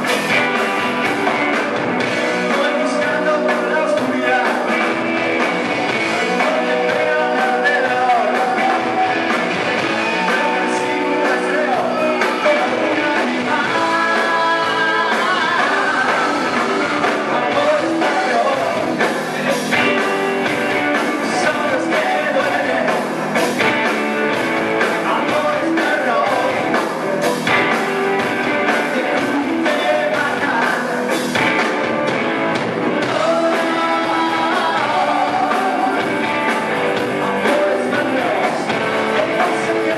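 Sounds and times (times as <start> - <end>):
distorted electric guitars: 0.0 - 39.9
drums: 0.0 - 39.9
lead vocal singing: 0.0 - 39.9.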